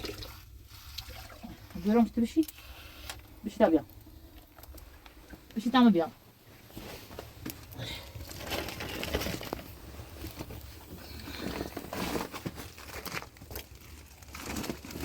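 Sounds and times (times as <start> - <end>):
crinkly rustling: 0.4 - 15.0.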